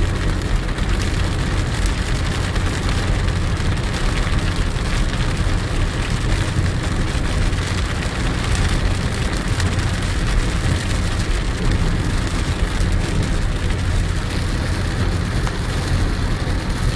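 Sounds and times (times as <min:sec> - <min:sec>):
low rumble: 0:00.0 - 0:16.9
rain falling on a car: 0:00.0 - 0:16.9.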